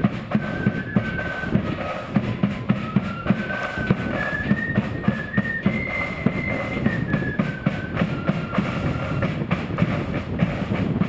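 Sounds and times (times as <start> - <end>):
flute melody: 0.0 - 10.8
drums beating steady time: 0.0 - 11.0.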